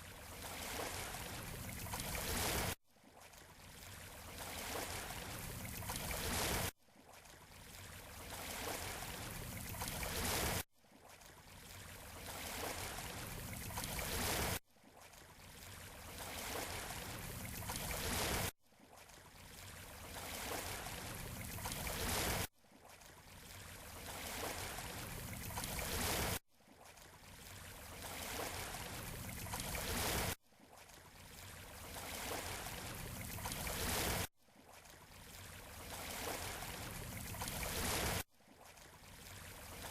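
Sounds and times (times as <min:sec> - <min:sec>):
ocean waves washing on beach: 0:00.0 - 0:39.9.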